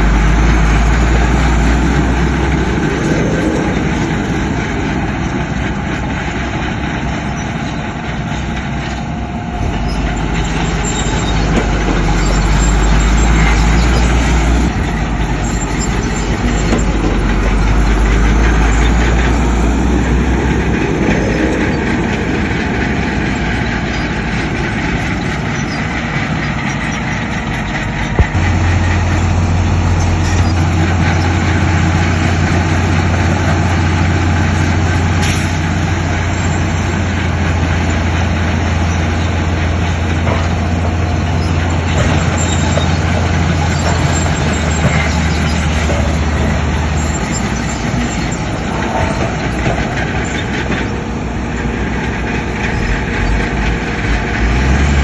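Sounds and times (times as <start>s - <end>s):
heavy machinery diesel engines: 0.0s - 55.0s.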